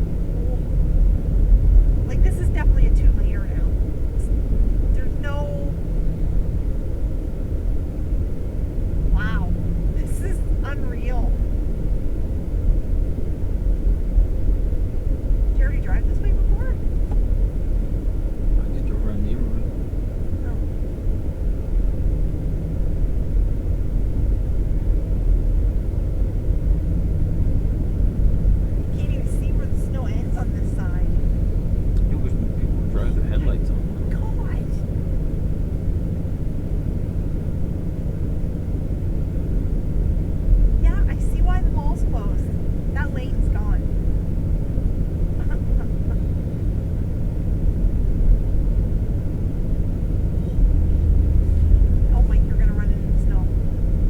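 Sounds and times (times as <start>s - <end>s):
truck rumble inside cab: 0.0s - 54.0s.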